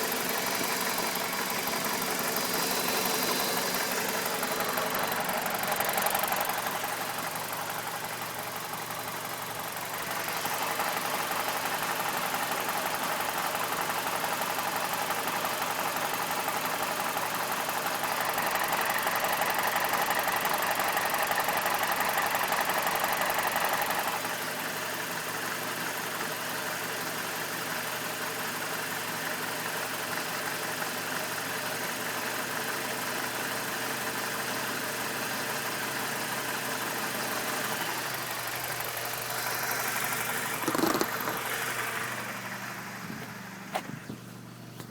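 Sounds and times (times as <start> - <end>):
car engine idling roughly: 0.0 - 44.9.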